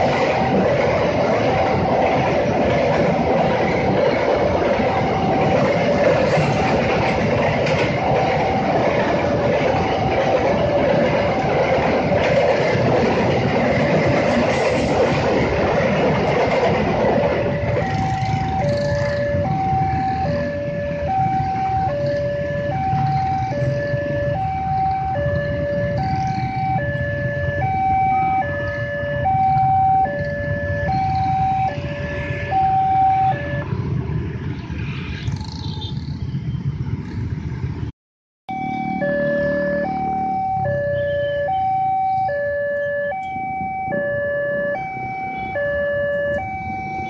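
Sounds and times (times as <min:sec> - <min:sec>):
two-tone crossing alarm: 0:00.0 - 0:33.8, 0:38.5 - 0:47.0
motorcycle and road traffic: 0:00.0 - 0:37.9, 0:38.5 - 0:47.0.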